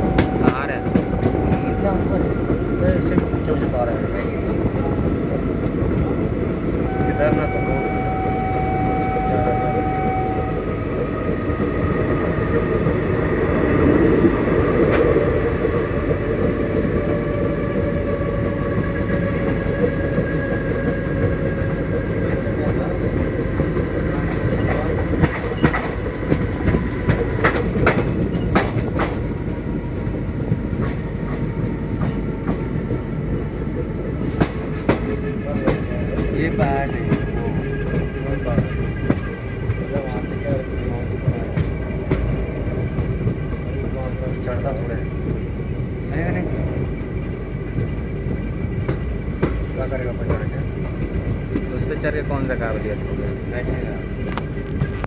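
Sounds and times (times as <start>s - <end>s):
train rumbling with faint whine: 0.0s - 55.0s.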